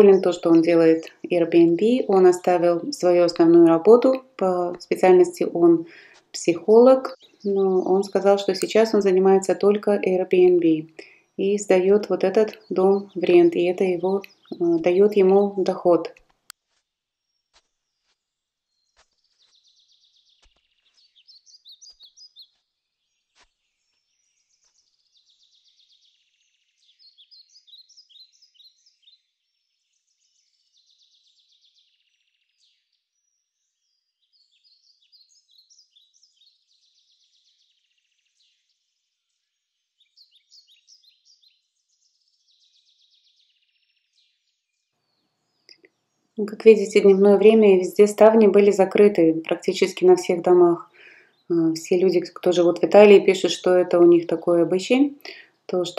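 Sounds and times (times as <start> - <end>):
songbird singing trills: 0.0 - 16.2, 18.7 - 38.8, 39.5 - 55.9.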